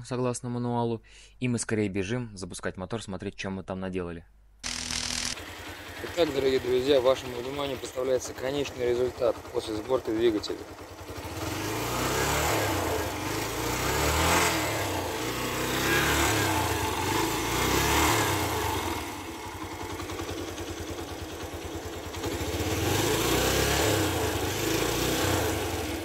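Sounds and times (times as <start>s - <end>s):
motorcycle engine revving: 4.6s - 26.0s.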